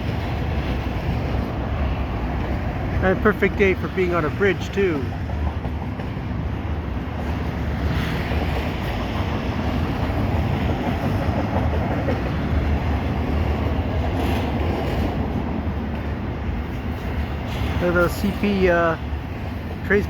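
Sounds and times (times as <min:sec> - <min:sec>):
train cars clattering: 0:00.0 - 0:20.0
train wheels rumbling on rails: 0:00.0 - 0:20.0.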